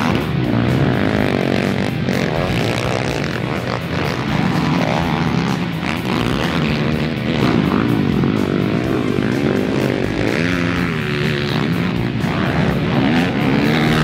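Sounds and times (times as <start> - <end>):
racing quad engines revving: 0.0 - 14.0.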